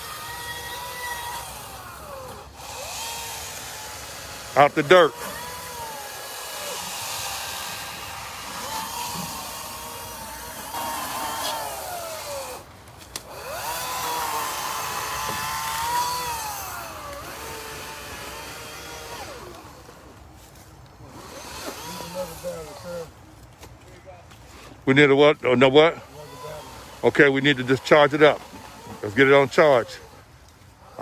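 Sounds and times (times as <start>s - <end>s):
electric saw cutting tree limbs: 0.0s - 23.2s, 24.4s - 31.0s.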